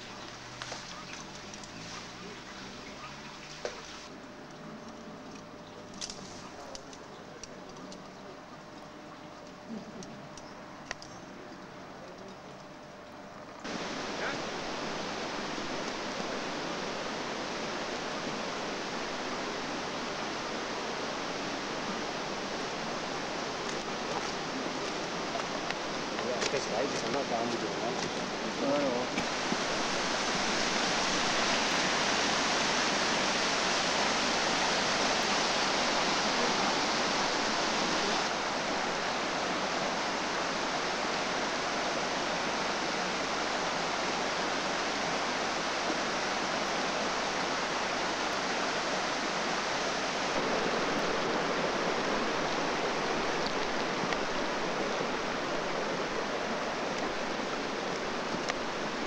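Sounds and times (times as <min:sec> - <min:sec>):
stream rushing over stones: 0:00.0 - 0:04.1, 0:13.6 - 0:59.0.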